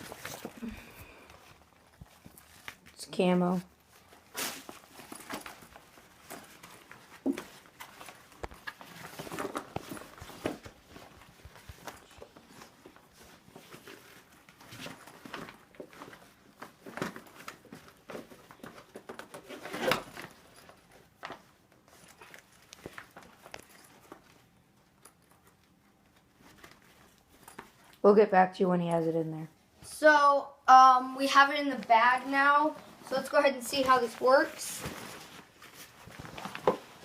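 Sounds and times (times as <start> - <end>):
rustling fabric bag: 0.0 - 28.0, 32.6 - 37.0.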